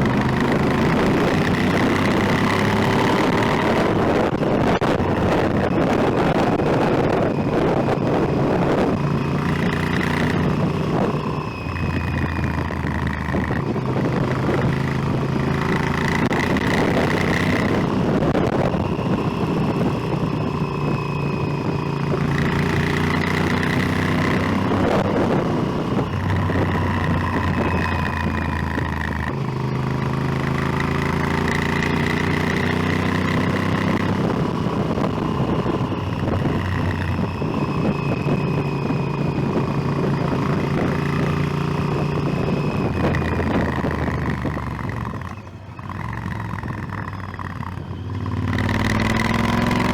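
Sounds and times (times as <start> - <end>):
motorcycle engine revving: 0.0 - 49.9
steady rushing noise: 0.0 - 49.9.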